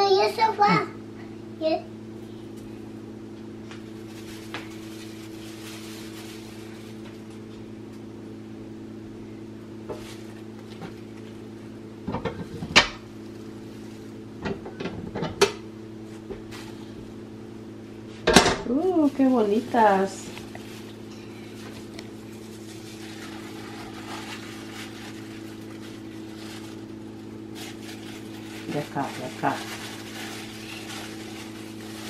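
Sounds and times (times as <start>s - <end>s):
low hum: 0.7s - 32.0s.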